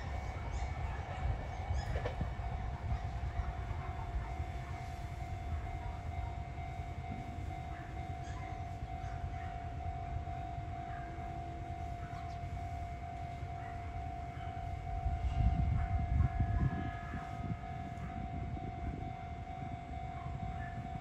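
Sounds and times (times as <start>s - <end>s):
train rumbling past: 0.0s - 20.6s.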